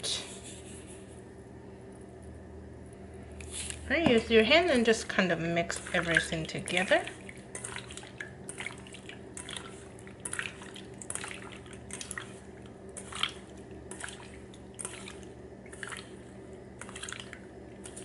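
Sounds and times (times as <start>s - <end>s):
low steady hum: 0.0s - 18.0s
wet squelches and splashes: 3.5s - 18.0s.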